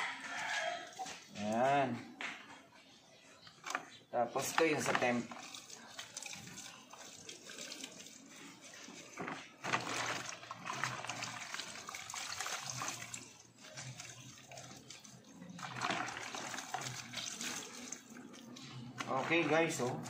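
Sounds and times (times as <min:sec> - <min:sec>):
water sloshing in bucket: 0:03.6 - 0:20.0.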